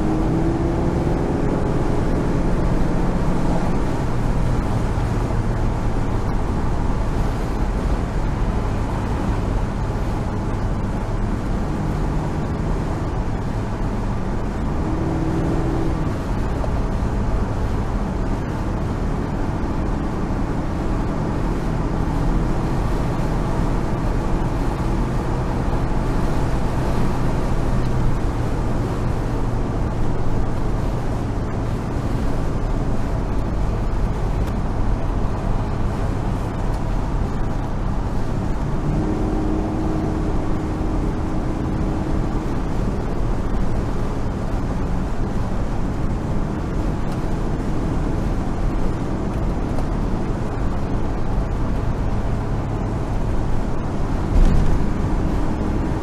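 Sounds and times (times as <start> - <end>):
car engine cruising: 0.0 - 56.0
wind noise: 0.0 - 56.0.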